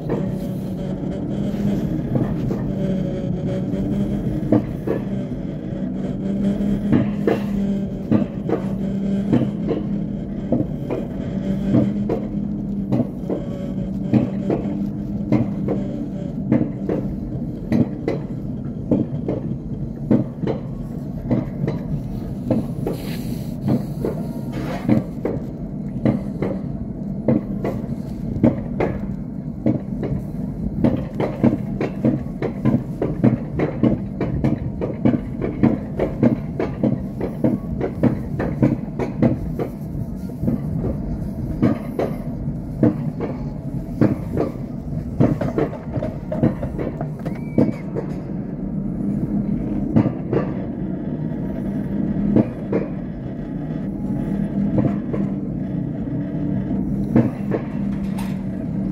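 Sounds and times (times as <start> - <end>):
coaster sled rumble and rattle: 0.0 - 58.9
track clacks: 0.0 - 58.9.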